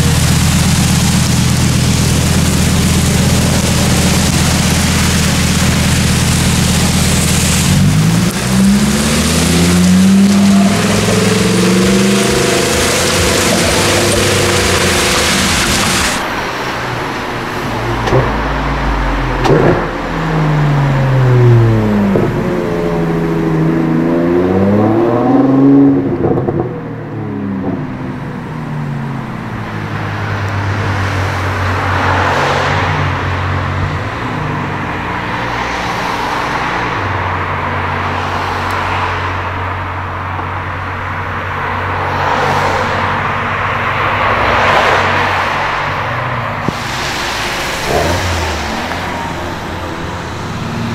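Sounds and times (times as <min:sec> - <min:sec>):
tyres hissing on wet road: 0:00.0 - 0:21.3, 0:28.6 - 0:50.9
car engine revving: 0:00.0 - 0:50.9.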